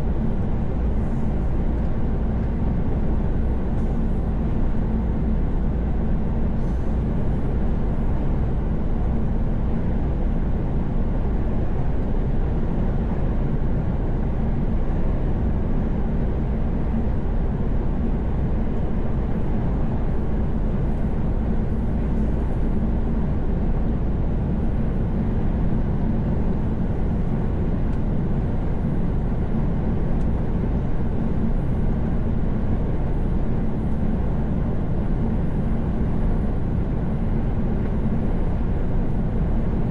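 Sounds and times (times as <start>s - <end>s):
truck road noise from inside cab: 0.0s - 39.9s.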